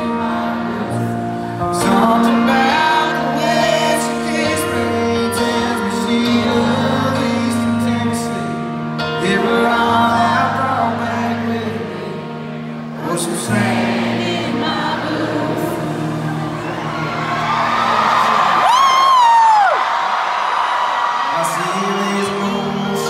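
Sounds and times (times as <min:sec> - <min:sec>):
man singing: 0:00.0 - 0:12.4, 0:13.0 - 0:17.5, 0:21.3 - 0:23.0
upright piano: 0:00.0 - 0:23.0.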